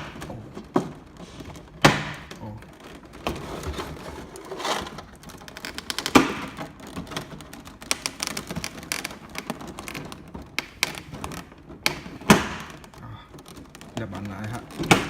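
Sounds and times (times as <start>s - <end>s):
packaging rustling: 0.0s - 15.0s
plastic parts clicking and tapping: 0.0s - 15.0s.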